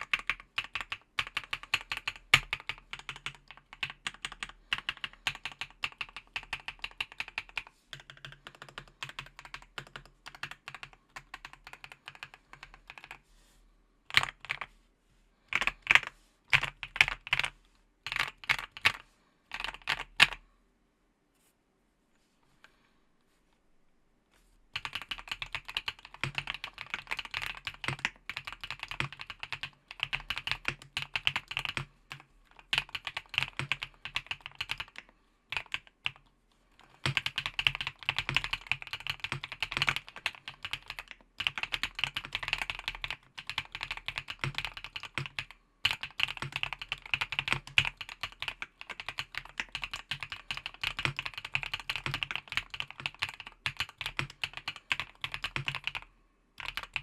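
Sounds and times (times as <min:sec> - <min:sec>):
mechanical keyboard typing: 0:00.0 - 0:13.2, 0:14.1 - 0:14.7, 0:15.5 - 0:20.4, 0:24.8 - 0:57.0.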